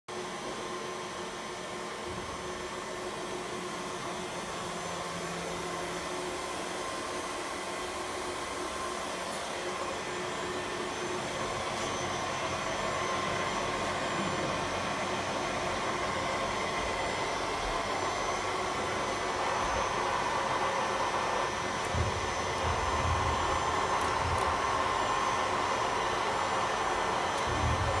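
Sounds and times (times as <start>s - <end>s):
machining center whirring: 2.0s - 28.0s.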